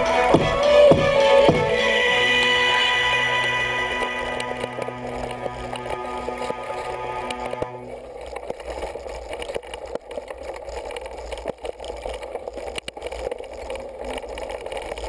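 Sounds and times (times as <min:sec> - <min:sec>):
bike tyre noise: 0:00.0 - 0:15.0.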